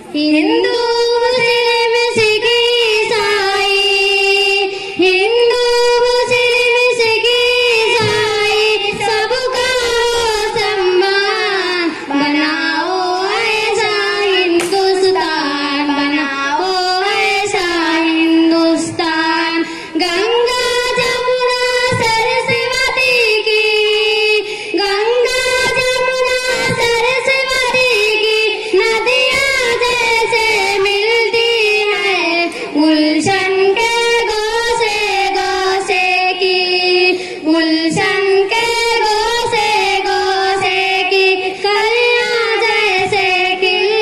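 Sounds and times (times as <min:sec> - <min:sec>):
girls singing over a pa: 0:00.0 - 0:44.0.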